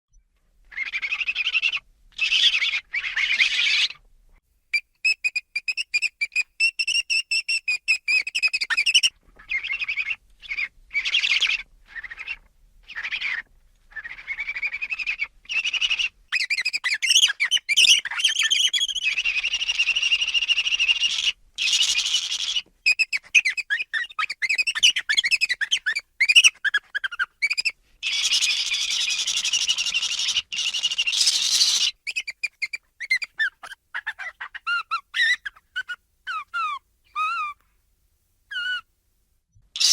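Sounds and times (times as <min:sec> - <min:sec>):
ferret squeaking and chittering: 0:00.7 - 0:04.0, 0:05.1 - 0:37.6, 0:38.5 - 0:38.8.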